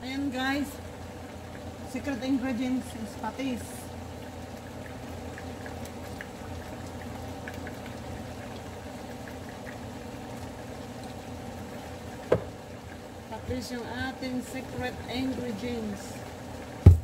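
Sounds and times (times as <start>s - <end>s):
pot bubbling and popping: 0.0s - 17.0s.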